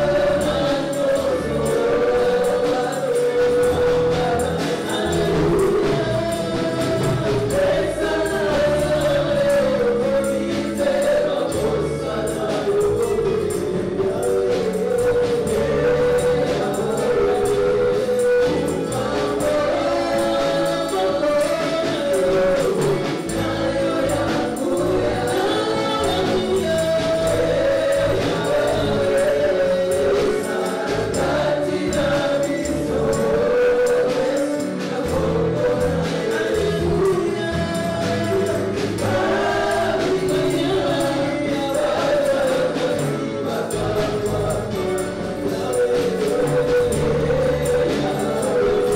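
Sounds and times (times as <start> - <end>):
bass: 0.0 - 48.9
choir singing gospel: 0.0 - 48.9
instrumental backing: 0.0 - 48.9
steady percussion beat: 0.0 - 48.9.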